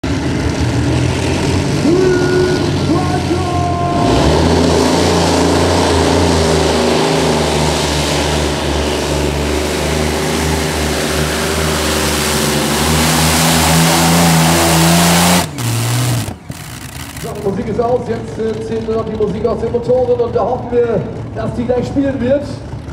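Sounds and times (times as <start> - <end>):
tractor engines at full power: 0.0 - 22.9.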